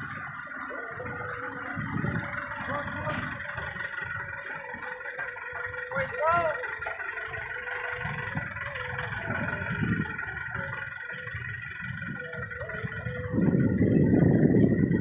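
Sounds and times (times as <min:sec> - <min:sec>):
dump truck diesel engines running: 0:00.0 - 0:15.0.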